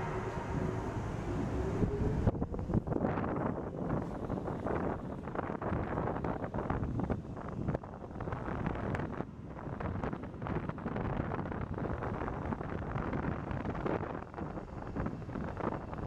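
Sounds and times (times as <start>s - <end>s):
train wheels rumbling on rails: 0.0s - 16.0s
wind on microphone: 0.0s - 16.0s.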